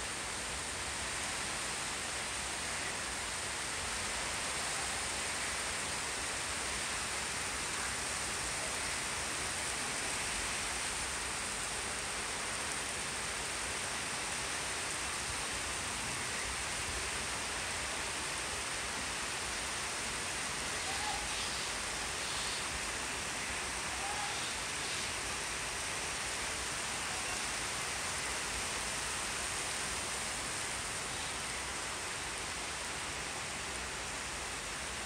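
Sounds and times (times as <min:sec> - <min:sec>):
heavy rain on leaves and rooftop: 0:00.0 - 0:35.0.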